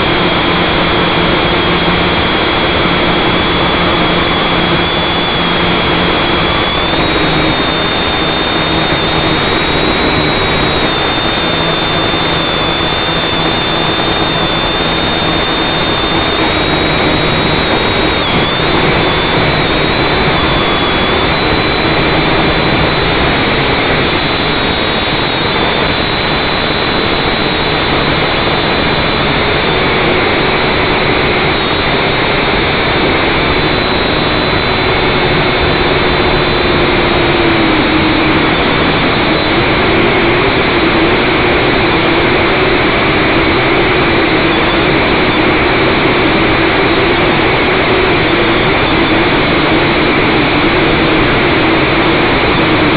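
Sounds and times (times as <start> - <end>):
drone motors whining: 0.0 - 52.9
steady rushing noise: 0.0 - 52.9.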